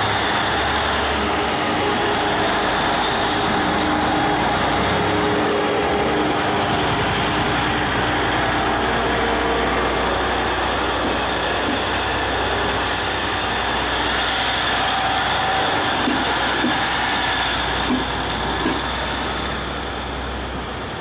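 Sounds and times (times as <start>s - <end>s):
diesel locomotive engine: 0.0s - 21.0s
high squeal: 0.0s - 21.0s
train wagons rumbling: 0.0s - 21.0s.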